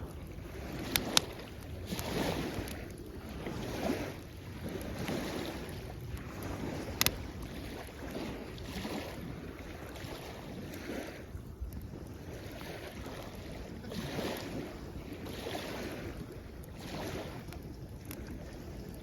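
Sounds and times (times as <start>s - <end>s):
campfire crackling and popping: 0.0s - 19.0s
waves washing on shore: 0.0s - 19.0s.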